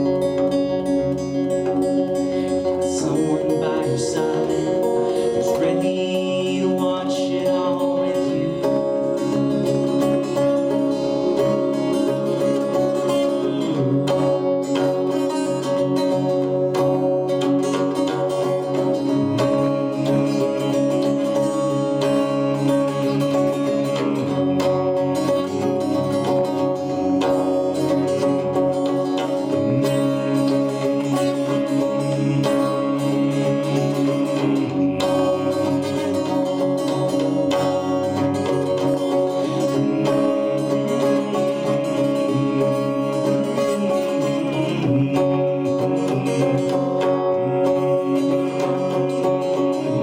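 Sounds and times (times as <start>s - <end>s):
acoustic guitar playing: 0.0s - 50.0s.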